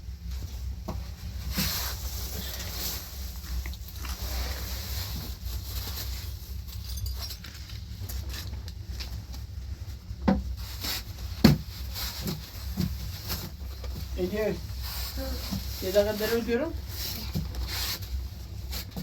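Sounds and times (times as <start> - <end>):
rubbing and scraping handling noise: 0.1 - 19.0.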